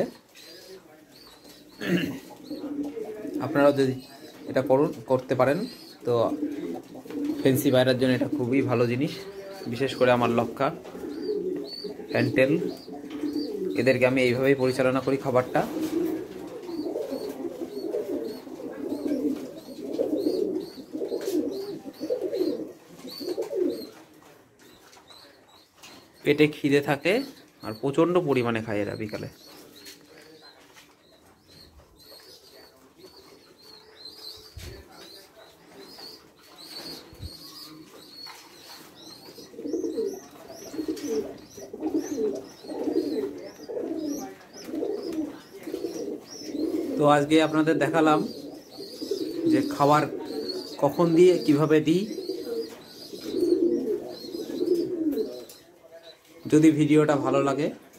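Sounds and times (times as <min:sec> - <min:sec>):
pigeons cooing: 0:00.0 - 0:57.9.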